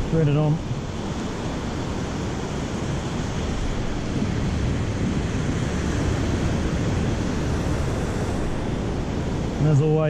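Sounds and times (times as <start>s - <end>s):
surf breaking on beach: 0.0s - 10.0s
wind rumbling on microphone: 0.0s - 10.0s.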